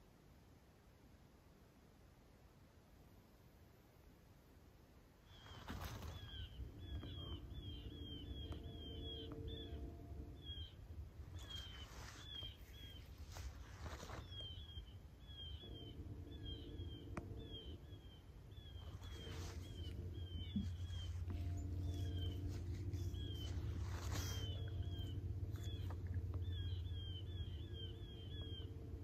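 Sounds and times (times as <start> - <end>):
low background rumble: 5.1 - 29.0
small birds chirping: 5.3 - 29.0.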